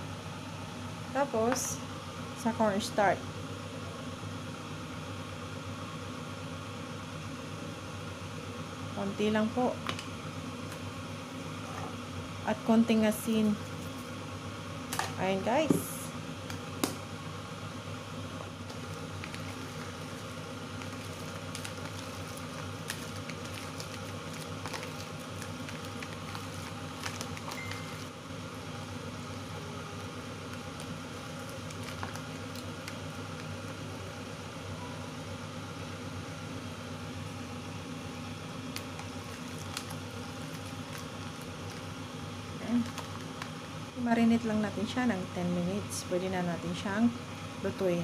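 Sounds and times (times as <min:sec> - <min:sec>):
mechanical hum: 0:00.0 - 0:48.0.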